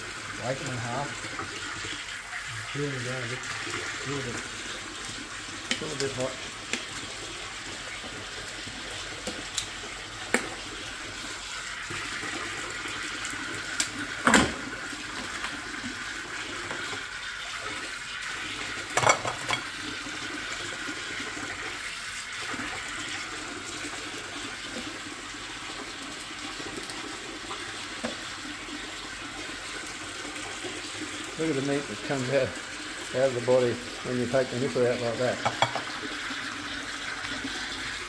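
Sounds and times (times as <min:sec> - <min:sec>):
running splashing water: 0:00.0 - 0:38.0.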